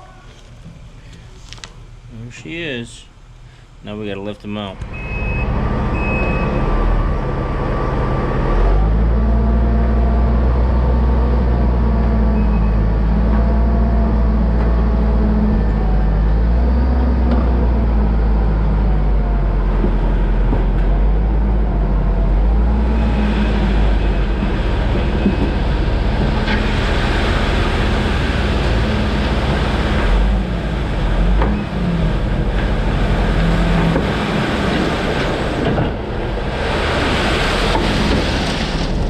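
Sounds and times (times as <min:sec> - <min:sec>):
heavy diesel engine revving: 0:04.8 - 0:39.0.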